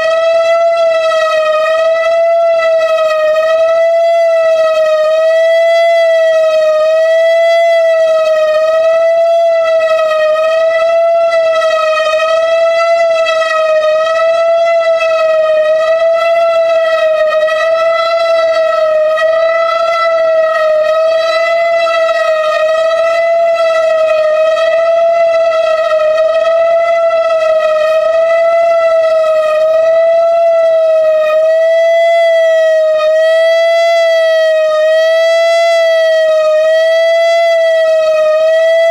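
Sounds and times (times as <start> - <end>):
electronic siren steady tone: 0.0 - 38.9.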